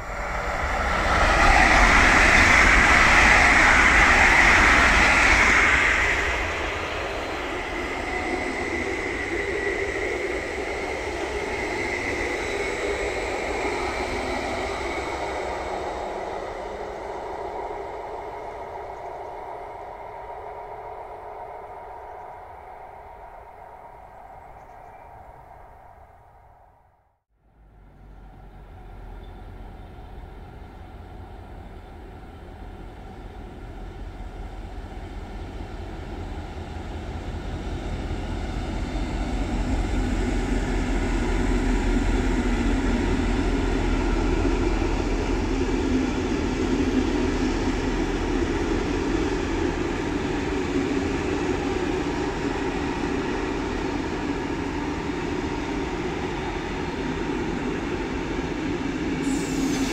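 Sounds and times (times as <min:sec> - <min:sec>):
train wheels rumbling on rail: 0:00.0 - 0:25.1, 0:27.5 - 0:59.9.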